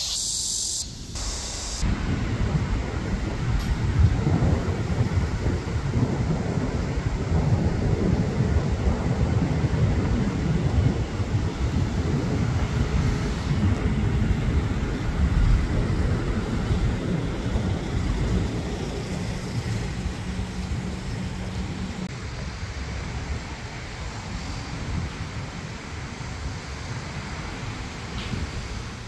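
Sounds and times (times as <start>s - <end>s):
jet airliner rumbling overhead: 0.0s - 29.0s.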